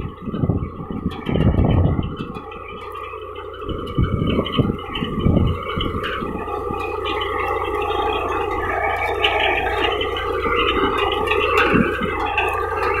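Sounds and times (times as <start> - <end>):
digger rattling through soil: 0.0 - 13.0
tractor engine under load: 0.0 - 13.0.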